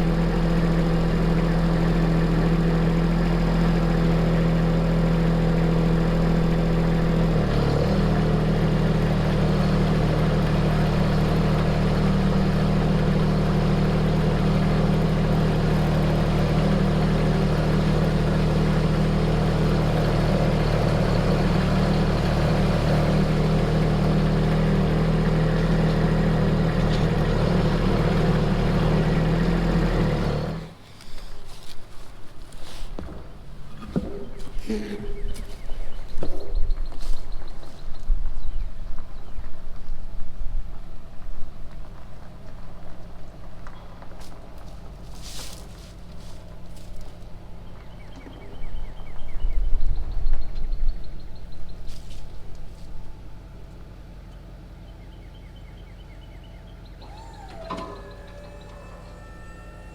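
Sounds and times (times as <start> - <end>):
machine engine running: 0.0 - 37.9, 41.9 - 59.9.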